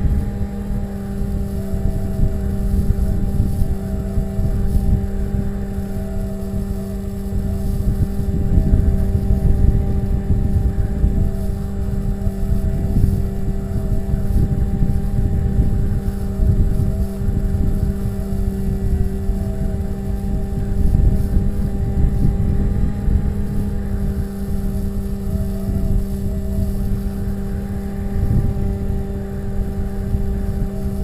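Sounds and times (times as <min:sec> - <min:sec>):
electric motor and propeller whine: 0:00.0 - 0:31.0
wind buffeting microphone: 0:00.0 - 0:31.0.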